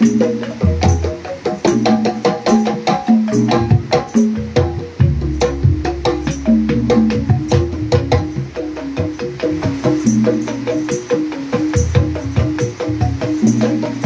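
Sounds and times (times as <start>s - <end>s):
bamboo tubes struck with mallets: 0.0s - 14.0s.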